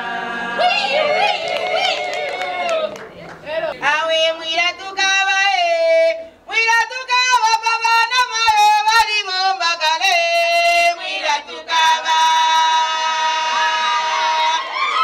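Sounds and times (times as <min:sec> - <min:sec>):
women singing: 0:00.0 - 0:15.0.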